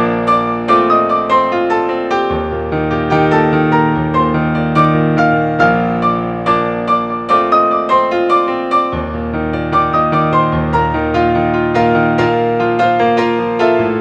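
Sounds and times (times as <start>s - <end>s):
solo piano: 0.0s - 14.0s.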